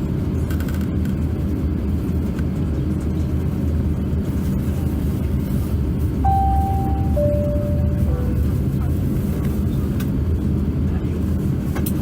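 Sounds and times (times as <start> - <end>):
airliner cabin rumble: 0.1 - 12.0.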